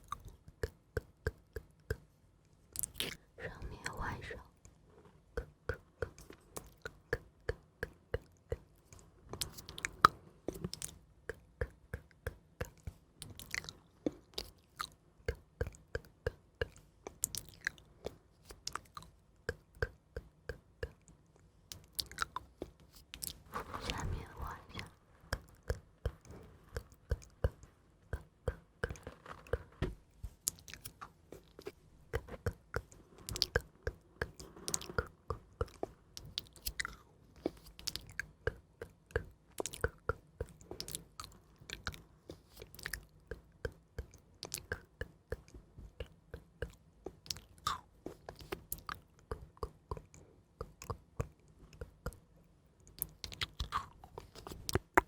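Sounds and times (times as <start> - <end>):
soft crisp clicks and crackles: 0.0 - 55.0.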